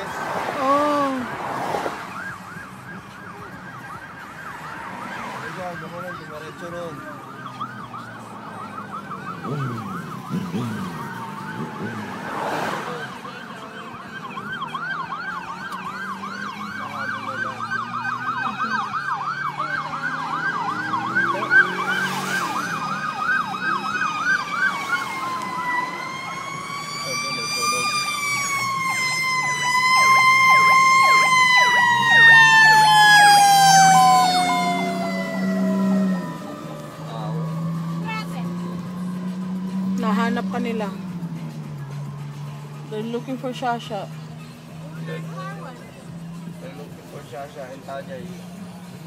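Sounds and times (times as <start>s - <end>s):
siren wail: 0.4s - 41.2s
higher siren wail: 0.6s - 41.2s
siren yelp: 0.6s - 41.2s.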